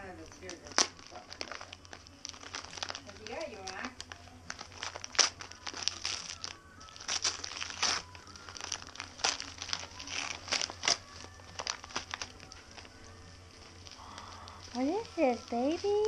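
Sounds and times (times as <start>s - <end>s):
wrapping paper crinkling and tearing: 0.0s - 16.0s.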